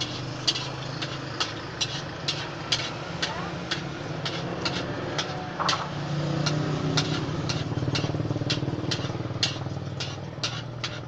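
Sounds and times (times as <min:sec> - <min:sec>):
metal utensil clicking against wok: 0:00.0 - 0:11.0.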